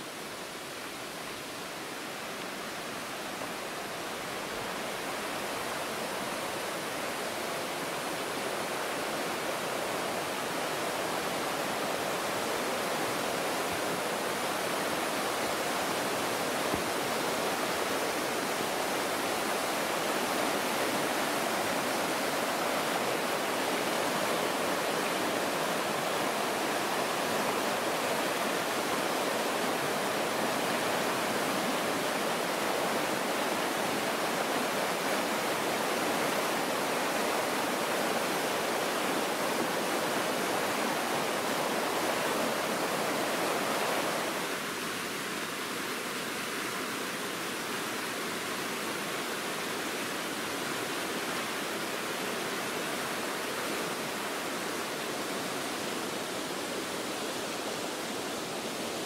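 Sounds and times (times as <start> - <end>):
rapids rushing over rocks: 0.0 - 59.0.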